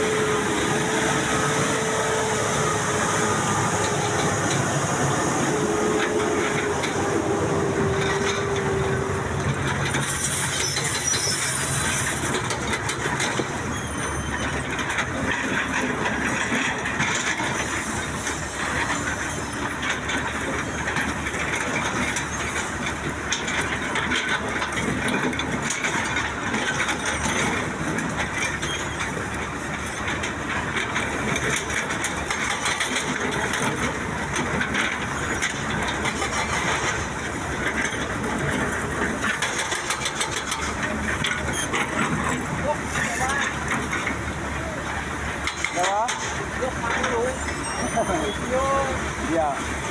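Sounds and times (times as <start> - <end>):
excavator engine and hydraulics: 0.0 - 49.9.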